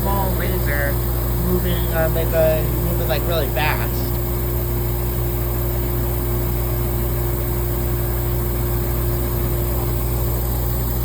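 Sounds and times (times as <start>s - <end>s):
machine humming with drone: 0.0s - 11.0s.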